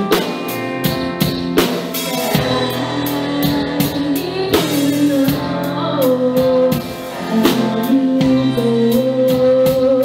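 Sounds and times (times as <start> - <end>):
rock band playing a slow ballad: 0.0 - 10.0.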